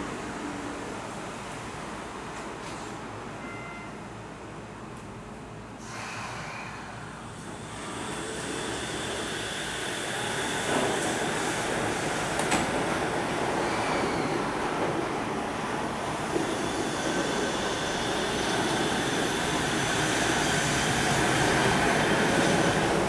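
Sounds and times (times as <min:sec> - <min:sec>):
monorail train running noise: 0:00.0 - 0:23.0.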